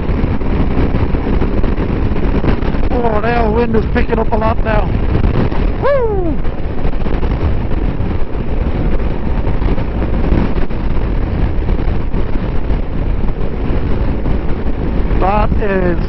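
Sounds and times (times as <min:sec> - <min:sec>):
motorcycle road noise: 0:00.0 - 0:16.0
wind noise on microphone: 0:00.0 - 0:16.0.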